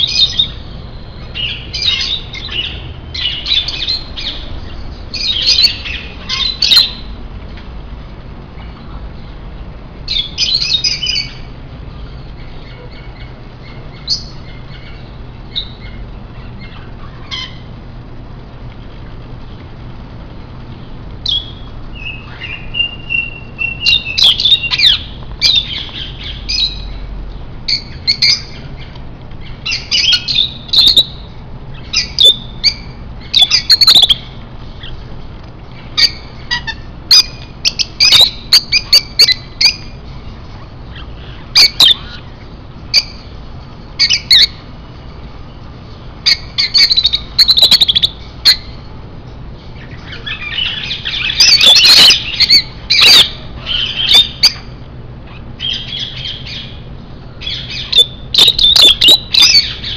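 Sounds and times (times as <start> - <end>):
parrots squawking: 0.0 - 7.2, 10.1 - 11.5, 12.4 - 17.7, 21.2 - 27.1, 27.7 - 35.0, 35.8 - 43.3, 44.0 - 44.7, 46.2 - 48.9, 49.8 - 59.9.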